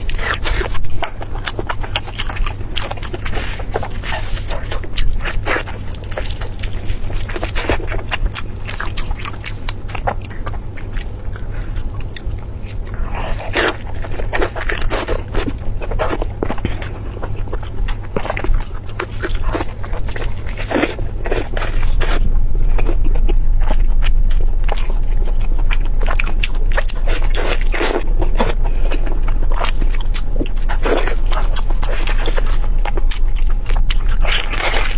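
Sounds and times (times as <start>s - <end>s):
chewing crunches: 0.0s - 34.9s
steady low hum: 0.0s - 34.9s.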